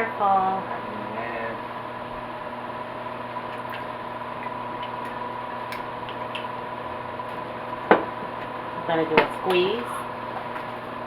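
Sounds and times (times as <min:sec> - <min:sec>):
pan simmering with faint sizzle: 0:00.0 - 0:11.0
steady electrical hum: 0:00.0 - 0:11.0.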